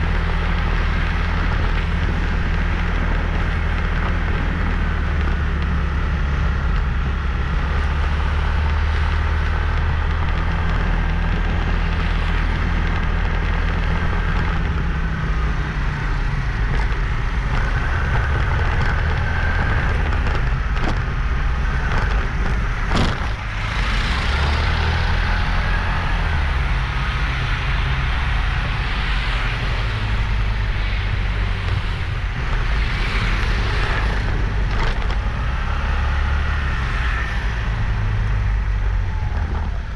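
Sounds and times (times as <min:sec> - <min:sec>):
motorbike engine and road noise: 0:00.0 - 0:39.9.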